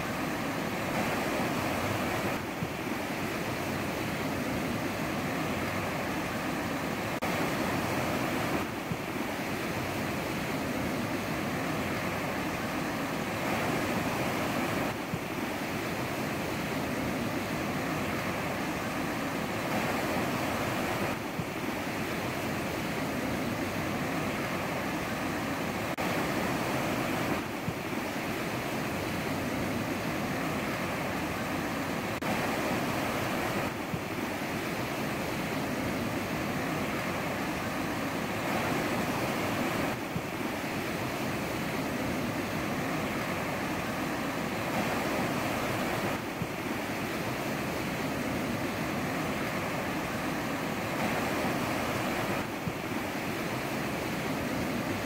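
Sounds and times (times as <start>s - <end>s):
ocean surf washing ashore: 0.0s - 55.0s.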